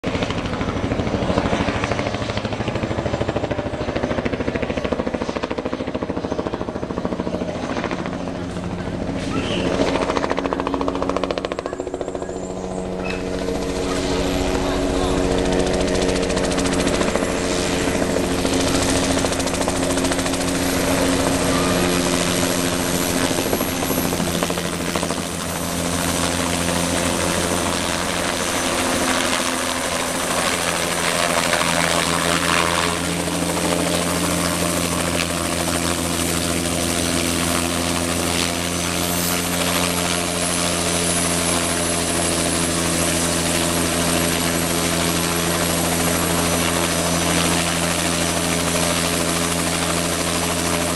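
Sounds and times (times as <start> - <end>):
helicopter rotor beating: 0.0 - 50.9.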